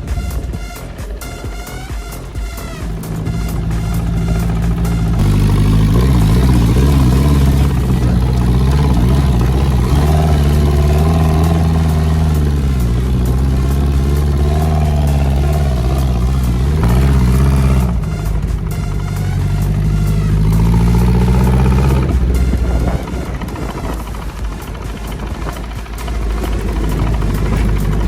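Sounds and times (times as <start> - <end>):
dune buggy engine revving: 0.0 - 28.0.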